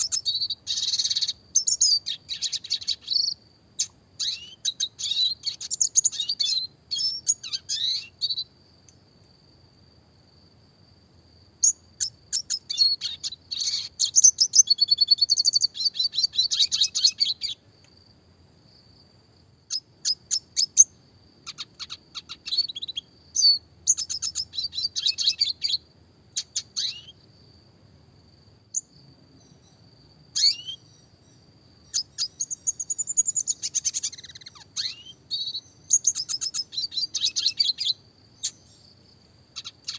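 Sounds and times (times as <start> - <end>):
bird twittering trills: 0.0 - 8.5, 11.6 - 17.6, 19.7 - 27.3, 28.7 - 39.0, 39.6 - 39.9.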